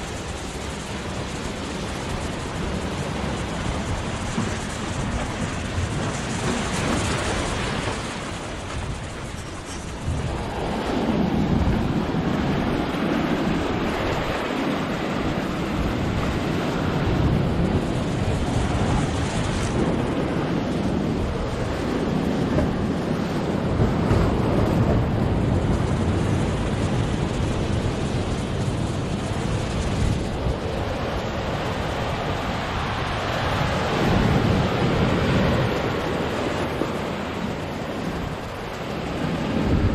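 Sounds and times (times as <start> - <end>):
surf breaking over rocks: 0.0 - 39.9
wind buffeting microphone: 0.0 - 39.9.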